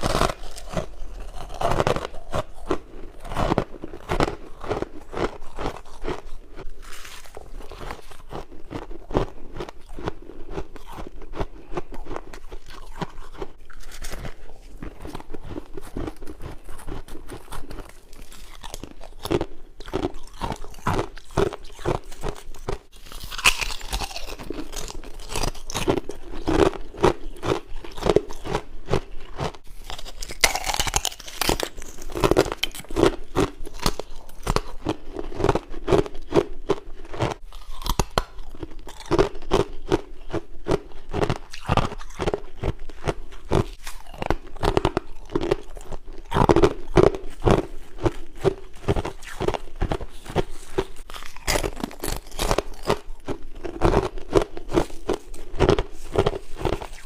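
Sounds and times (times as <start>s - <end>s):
person chewing ice: 0.0s - 57.0s.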